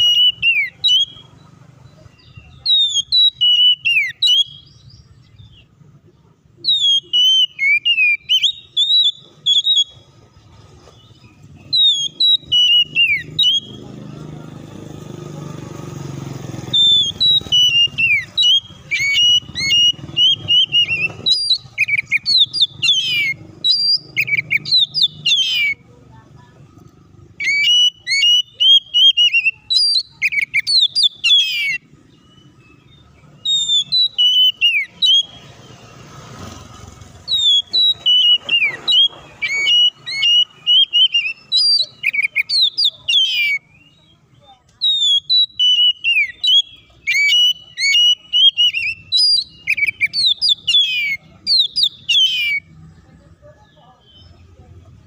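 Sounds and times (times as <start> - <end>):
bird singing whistled notes: 0.0 - 5.8, 6.5 - 14.0, 16.2 - 25.9, 27.0 - 54.6.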